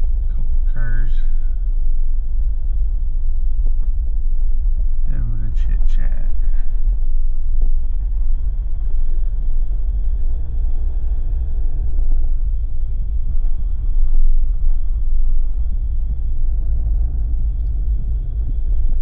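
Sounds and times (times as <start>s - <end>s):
vehicle driving rumble: 0.0s - 19.0s.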